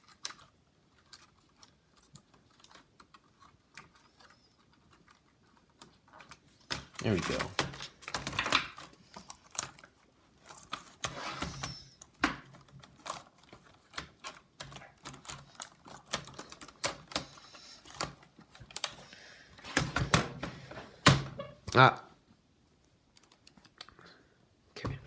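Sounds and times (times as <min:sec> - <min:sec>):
laptop parts clicking and tapping: 0:00.0 - 0:21.5, 0:22.8 - 0:24.0.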